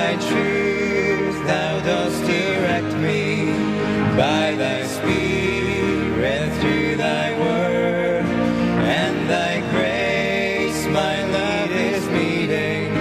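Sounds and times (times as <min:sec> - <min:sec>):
instrumental accompaniment: 0:00.0 - 0:13.0
men singing a hymn: 0:00.0 - 0:13.0.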